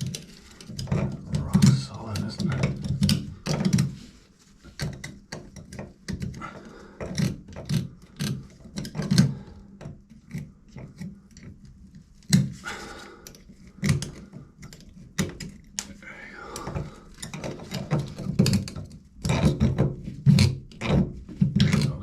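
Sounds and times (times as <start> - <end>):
irregular knocks and clicks: 0.0 - 4.0, 4.6 - 22.0.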